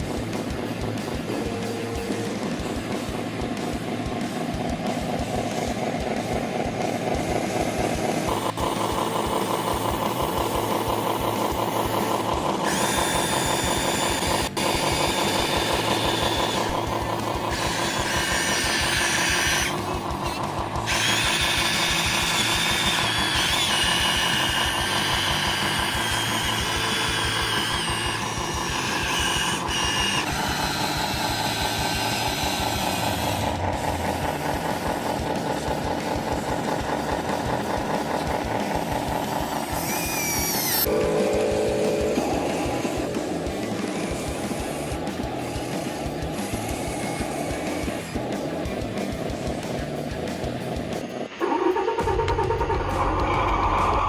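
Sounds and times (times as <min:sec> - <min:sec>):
rhythmic engine-like hum: 0:00.0 - 0:54.0
small electric gear motors whining: 0:00.0 - 0:54.0.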